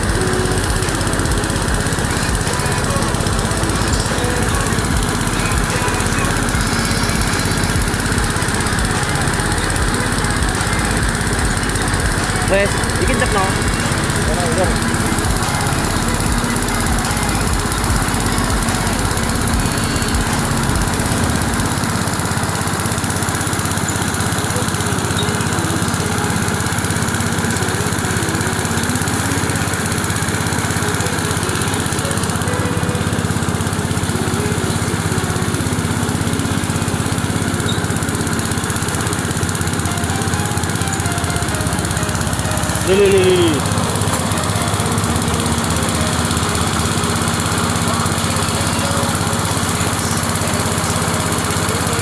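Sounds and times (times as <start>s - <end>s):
small diesel engine running: 0.0s - 52.0s.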